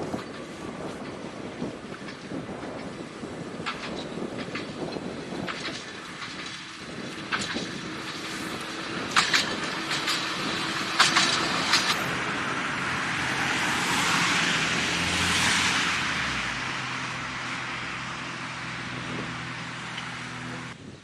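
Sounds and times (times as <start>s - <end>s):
electric tram passing: 0.0s - 20.8s.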